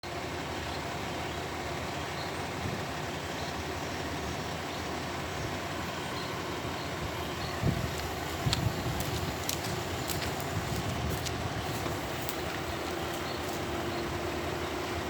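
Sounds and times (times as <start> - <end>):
excavator engine rumbling: 0.0 - 15.0.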